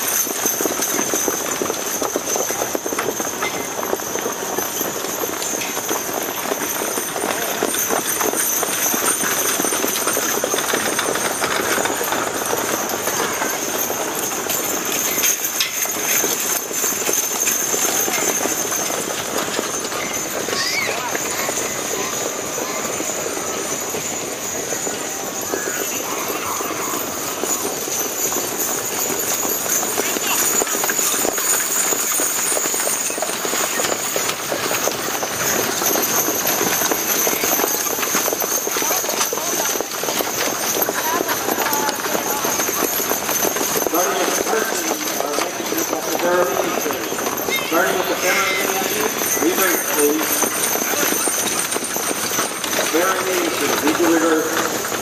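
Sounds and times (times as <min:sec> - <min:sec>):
heavy wagon rumbling: 0:00.0 - 0:55.0
horses trotting on dirt: 0:00.0 - 0:55.0.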